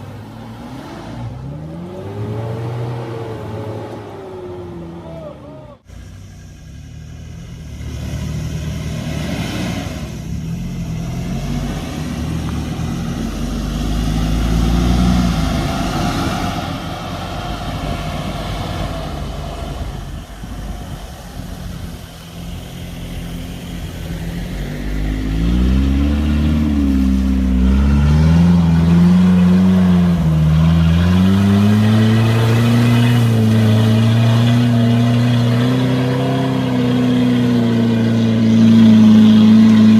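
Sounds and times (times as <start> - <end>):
engine pulling under load: 0.0 - 39.9.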